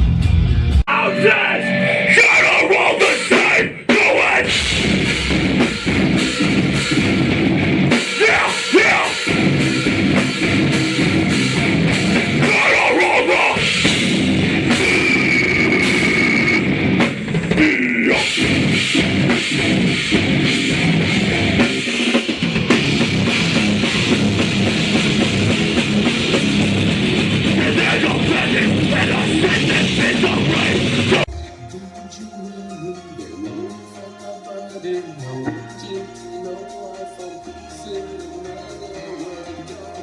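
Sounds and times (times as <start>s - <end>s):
loud rock music: 0.0s - 40.0s.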